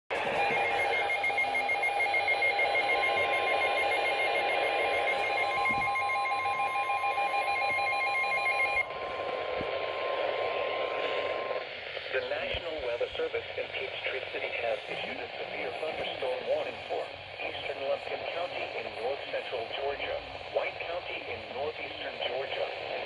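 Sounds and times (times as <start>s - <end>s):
radio static: 0.1s - 23.0s.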